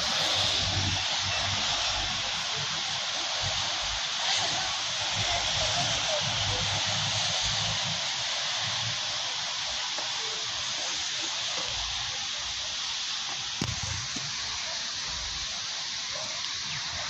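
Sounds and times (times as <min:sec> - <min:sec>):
light rain hissing: 0:00.0 - 0:17.0.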